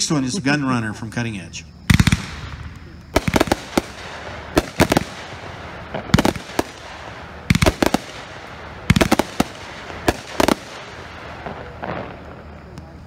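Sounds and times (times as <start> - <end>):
firework bangs: 1.9 - 12.8.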